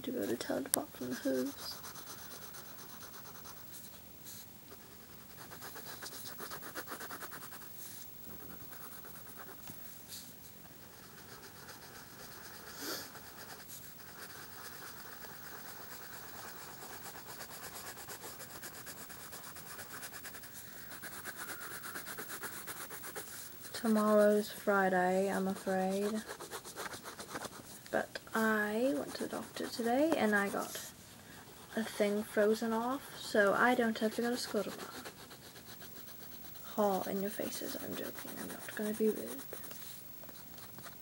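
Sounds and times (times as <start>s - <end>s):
crayon scribbling on paper: 0.1s - 7.7s, 8.3s - 9.6s, 10.8s - 27.7s, 28.3s - 41.0s.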